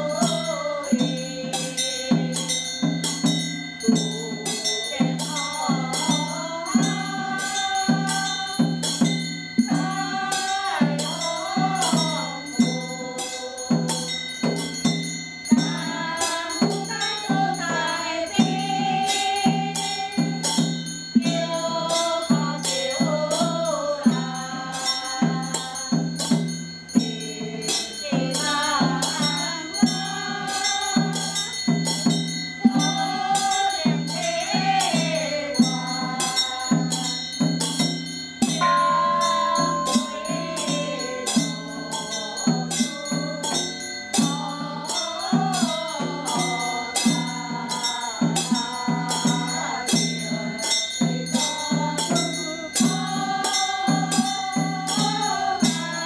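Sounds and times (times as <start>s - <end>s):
women chanting in unison: 0.0s - 56.0s.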